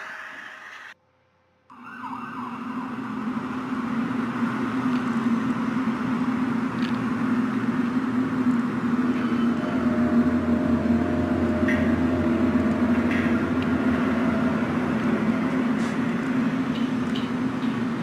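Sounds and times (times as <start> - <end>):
low droning hum: 3.0 - 18.0.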